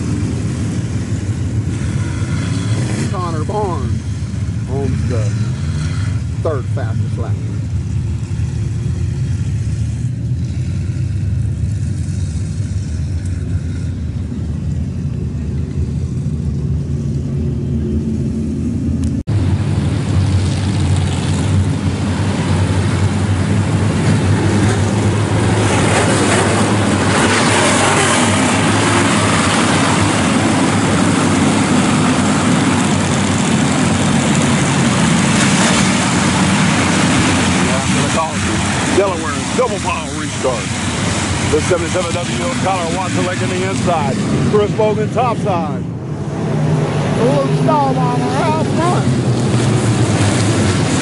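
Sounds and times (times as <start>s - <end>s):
race car engines humming: 0.0s - 51.0s.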